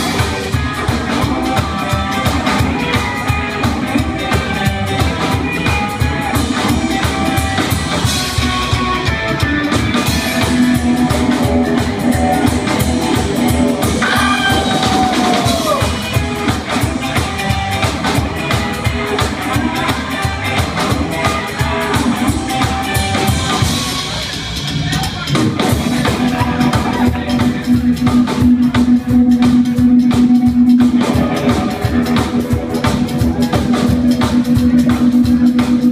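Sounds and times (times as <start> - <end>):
drum kit beat: 0.0 - 35.9
electric guitar: 0.0 - 35.9
upright double bass: 0.0 - 35.9.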